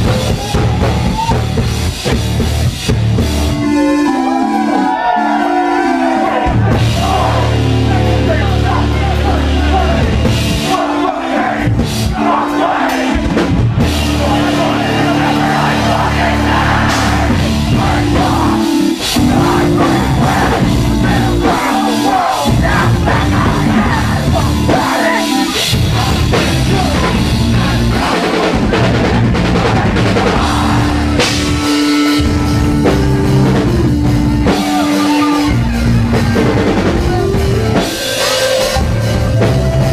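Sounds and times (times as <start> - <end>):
live heavy metal band: 0.0 - 39.9
vocals: 4.8 - 39.9.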